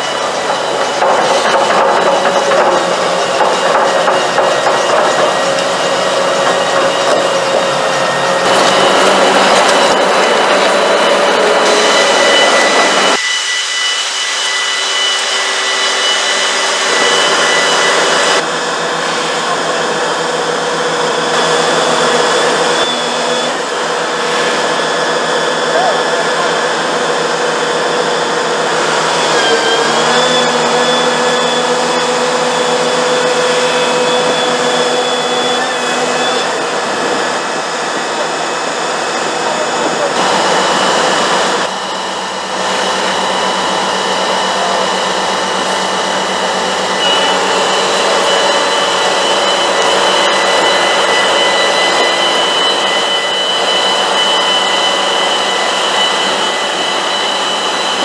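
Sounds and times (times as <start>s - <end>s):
excavator hydraulics drone and whine: 0.0s - 58.0s.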